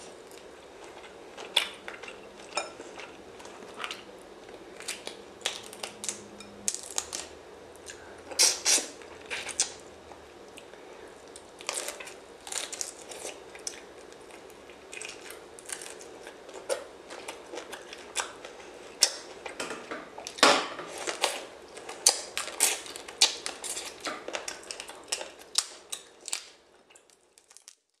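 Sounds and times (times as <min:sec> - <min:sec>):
prawn shells crackling and snapping: 0:00.3 - 0:07.3, 0:10.5 - 0:28.0.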